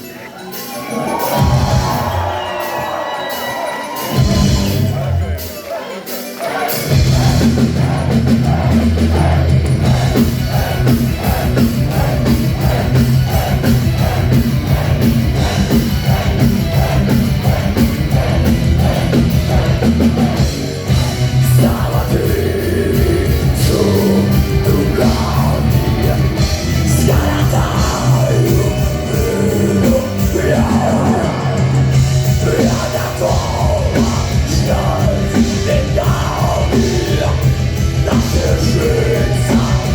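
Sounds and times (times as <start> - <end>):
heavy metal band playing live: 0.0 - 39.9
person singing: 0.0 - 39.9.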